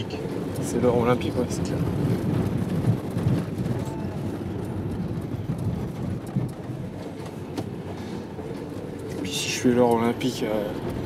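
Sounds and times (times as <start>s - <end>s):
low thumps from road: 0.0s - 9.2s
engine and road rumble: 0.0s - 11.0s.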